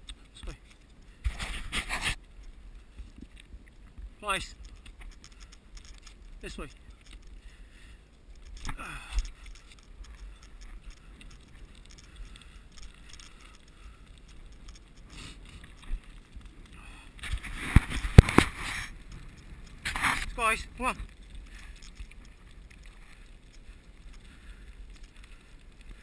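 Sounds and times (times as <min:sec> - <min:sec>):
wind: 0:00.0 - 0:26.0
bicycle tyres rumbling on asphalt: 0:00.6 - 0:26.0.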